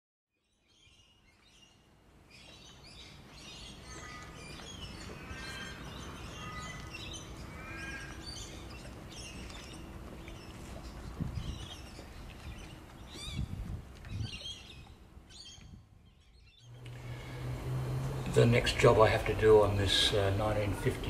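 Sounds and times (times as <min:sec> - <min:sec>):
birds chirping: 0:00.4 - 0:21.0.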